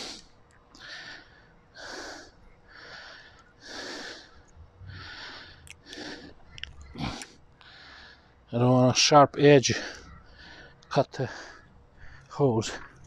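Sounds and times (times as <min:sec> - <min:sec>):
soft breathing: 0:00.0 - 0:08.5, 0:09.7 - 0:13.0.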